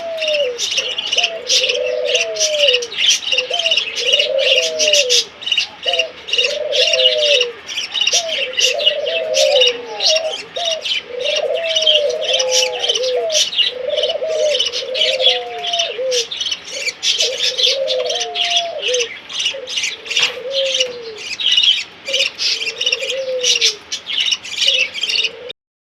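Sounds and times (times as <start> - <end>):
low cooing bird call: 0.0 - 25.6.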